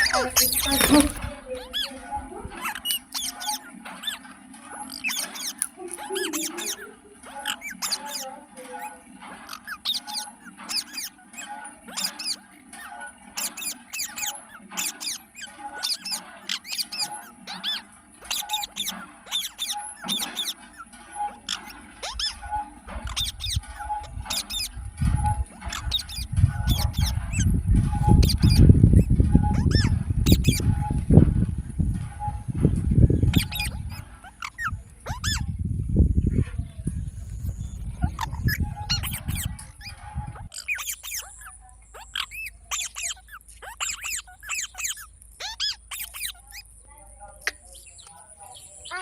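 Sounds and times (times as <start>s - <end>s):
parrot chirping in high squeaks: 0.0s - 31.2s, 31.8s - 49.0s.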